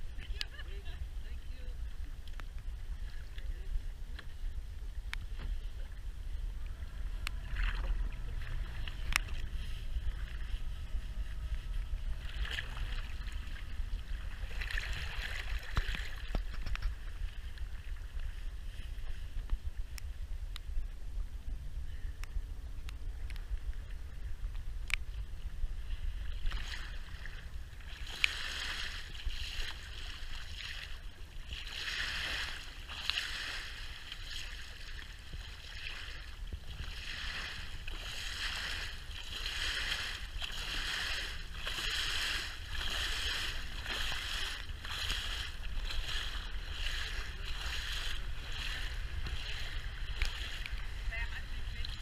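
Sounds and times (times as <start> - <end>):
boat engine droning: 0.0 - 52.0
water rushing along hull: 0.0 - 52.0.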